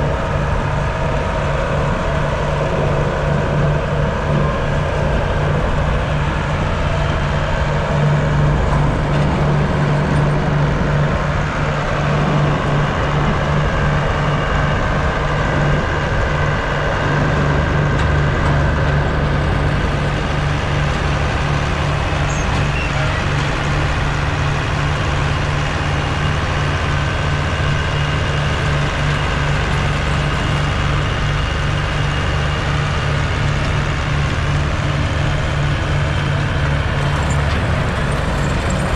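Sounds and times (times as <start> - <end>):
farm machine engine humming: 0.0 - 38.9.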